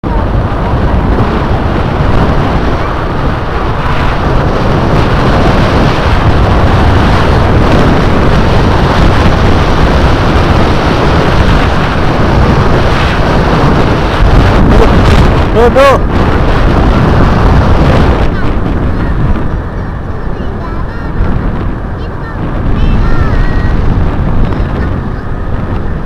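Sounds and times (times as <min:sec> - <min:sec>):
vehicle and road noise: 0:00.0 - 0:26.0
wind buffeting microphone: 0:00.0 - 0:26.0.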